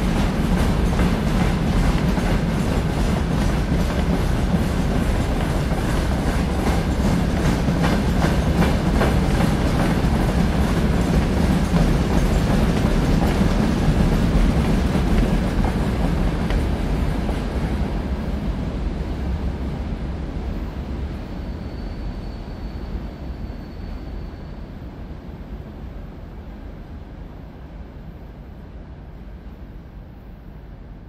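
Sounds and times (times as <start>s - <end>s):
freight train rolling: 0.0s - 31.0s.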